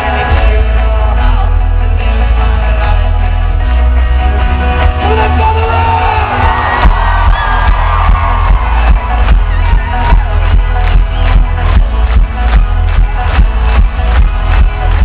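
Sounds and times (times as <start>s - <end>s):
live folk-rock band playing: 0.0s - 15.0s.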